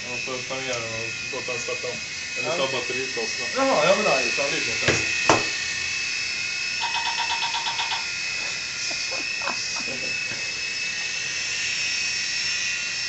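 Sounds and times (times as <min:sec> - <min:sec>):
toy helicopter motors whining: 0:00.0 - 0:13.0.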